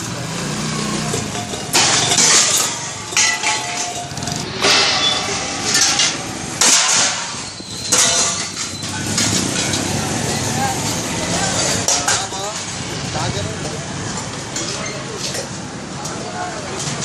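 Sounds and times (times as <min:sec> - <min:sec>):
scooters and rickshaw passing: 0:00.0 - 0:17.0
street traffic: 0:00.0 - 0:17.0.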